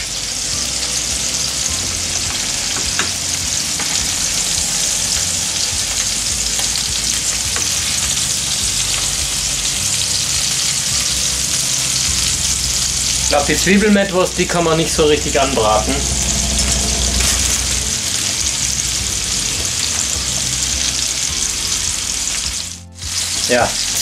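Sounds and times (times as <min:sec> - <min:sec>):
meatballs sizzling in a frying pan: 0:00.0 - 0:24.0.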